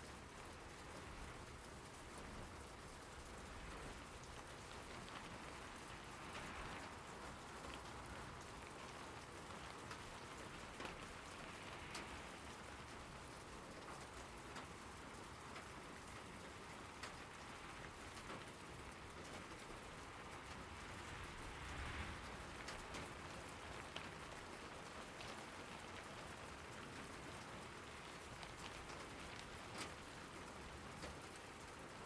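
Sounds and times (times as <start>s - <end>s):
rain hissing: 0.6s - 32.0s.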